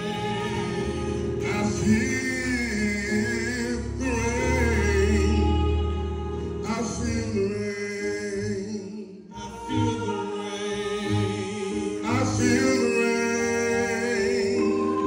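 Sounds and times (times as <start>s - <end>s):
low bass: 0.0s - 15.0s
man singing with vibrato: 0.0s - 15.0s
sustained accompanying chords: 0.0s - 15.0s.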